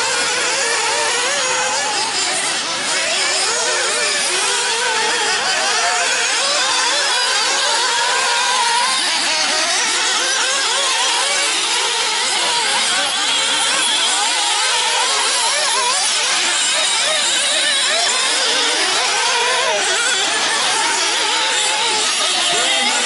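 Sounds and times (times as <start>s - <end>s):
small nitro engines racing: 0.0s - 23.0s.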